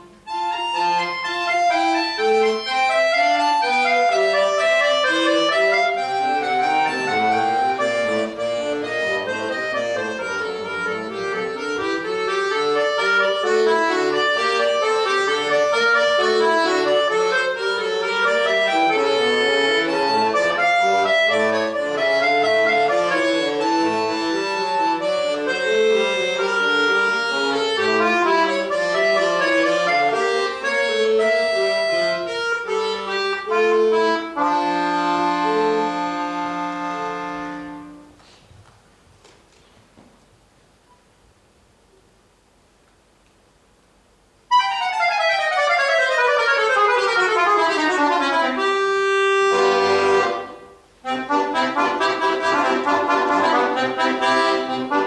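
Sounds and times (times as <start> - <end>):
solo accordion: 0.0 - 38.4, 44.5 - 55.0.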